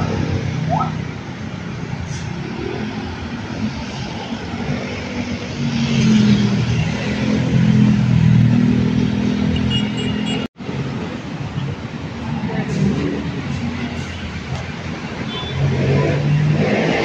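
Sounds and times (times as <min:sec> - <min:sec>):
vehicle engines passing close: 0:00.0 - 0:09.8, 0:10.6 - 0:17.0.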